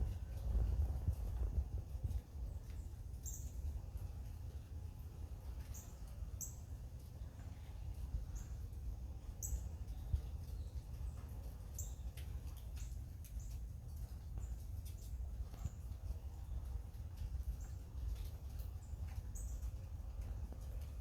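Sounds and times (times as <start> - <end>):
steady low rumble: 0.0 - 21.0
small birds chirping: 2.1 - 4.6, 5.5 - 21.0.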